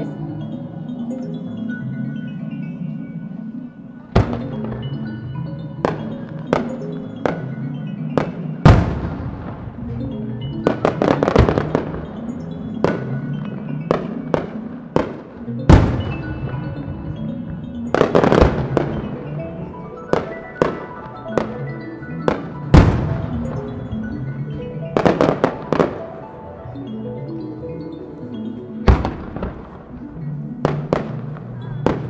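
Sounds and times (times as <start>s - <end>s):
music: 0.0s - 32.0s.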